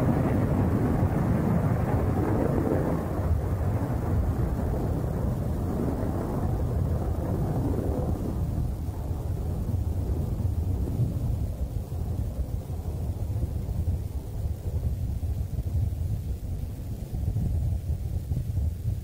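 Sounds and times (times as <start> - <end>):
rocket engine rumbling: 0.0 - 19.0.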